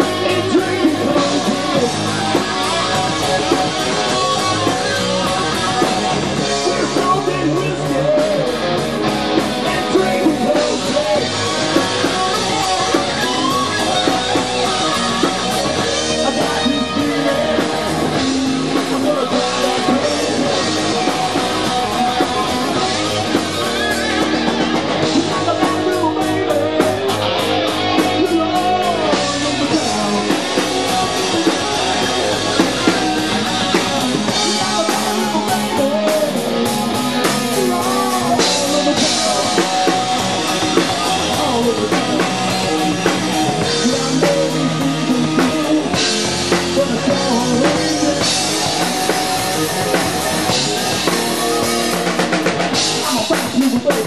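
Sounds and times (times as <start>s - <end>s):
man singing: 0.0s - 54.0s
rock band playing: 0.0s - 54.0s.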